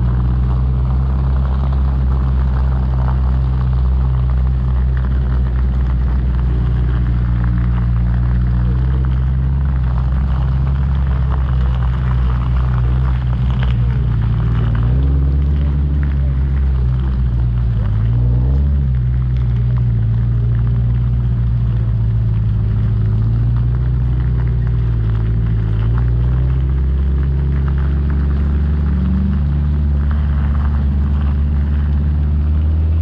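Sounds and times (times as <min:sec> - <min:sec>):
off-road vehicle engine: 0:00.0 - 0:33.0.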